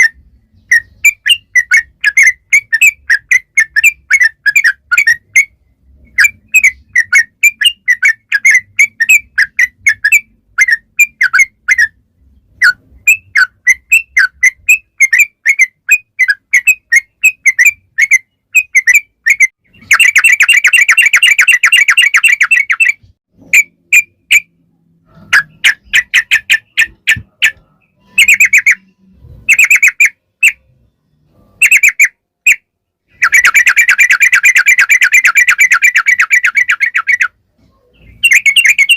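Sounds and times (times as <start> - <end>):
bulbul rolling trill: 0.0 - 30.8, 33.1 - 37.4, 38.1 - 38.9.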